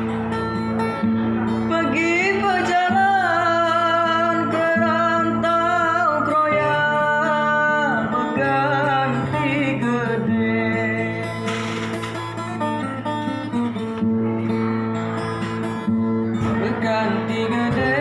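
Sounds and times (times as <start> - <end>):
plucked acoustic guitar: 0.0 - 18.0.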